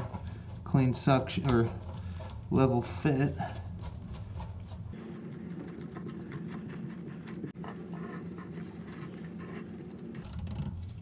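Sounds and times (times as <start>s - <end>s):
gloved fingers scratching plastic: 0.0s - 11.0s.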